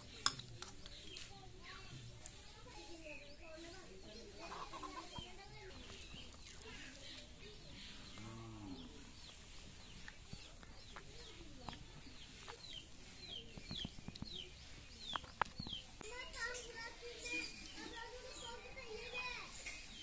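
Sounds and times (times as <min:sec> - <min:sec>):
chickens clucking: 0:02.1 - 0:20.0.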